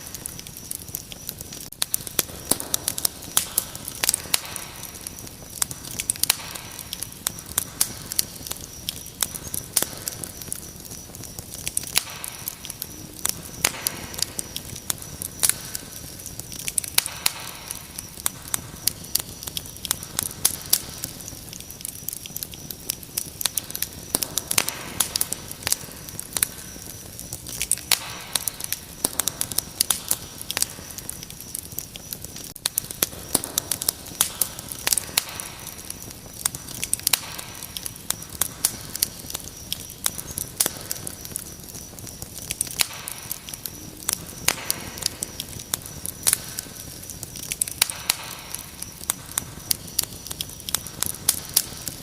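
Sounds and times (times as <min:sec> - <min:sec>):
crickets chirping: 0:00.0 - 0:52.0
wood fire crackling: 0:00.0 - 0:52.0.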